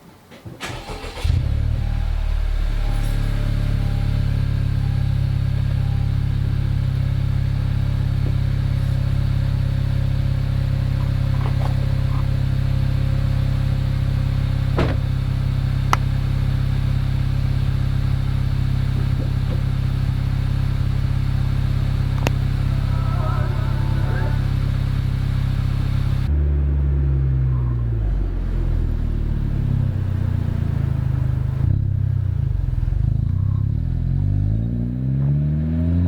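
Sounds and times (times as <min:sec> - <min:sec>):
car engine idling: 0:00.5 - 0:36.0.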